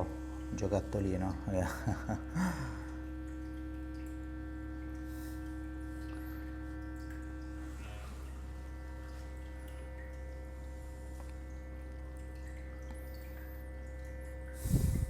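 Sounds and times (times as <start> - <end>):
massage device buzzing hum: 0.0 - 15.0.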